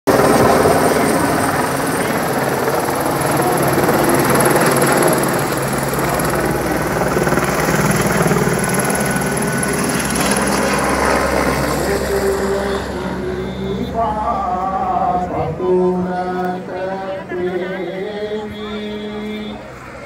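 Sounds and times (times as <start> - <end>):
helicopter flying overhead: 0.1 - 20.0.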